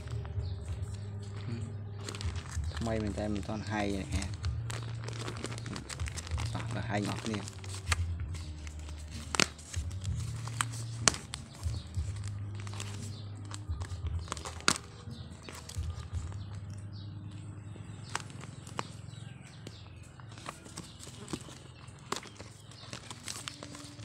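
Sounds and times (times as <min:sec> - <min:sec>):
plastic bag crinkling and tearing: 0:00.0 - 0:16.8, 0:17.9 - 0:24.0.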